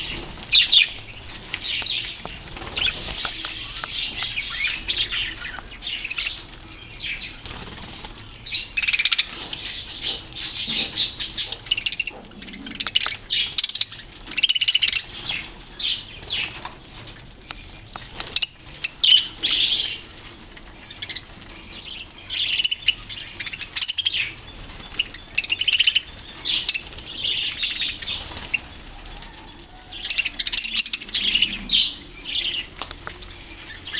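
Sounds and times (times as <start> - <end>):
budgerigars chirping: 0.0 - 33.9
wings flapping: 0.0 - 33.9.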